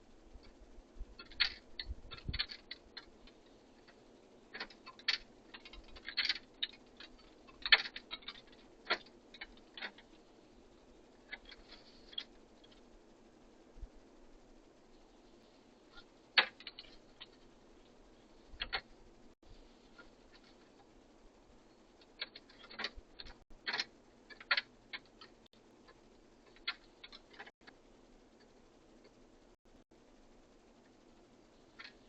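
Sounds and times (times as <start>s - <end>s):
birds pecking at feeder: 0.2s - 12.9s, 14.9s - 27.8s, 30.8s - 32.0s.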